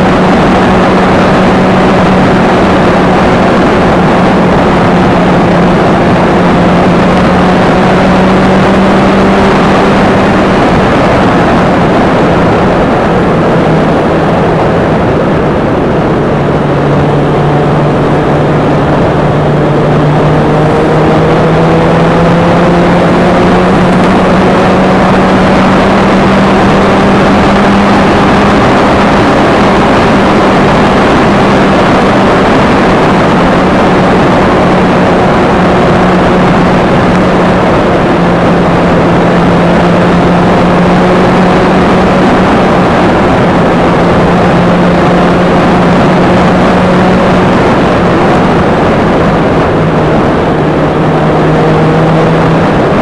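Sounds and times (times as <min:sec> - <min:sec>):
vehicle engine droning: 0:00.0 - 0:53.0
wind rush on microphone: 0:00.0 - 0:53.0.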